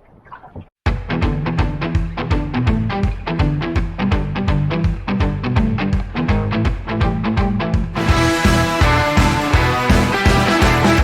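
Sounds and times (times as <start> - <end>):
background music with driving beat: 0.9 - 11.0.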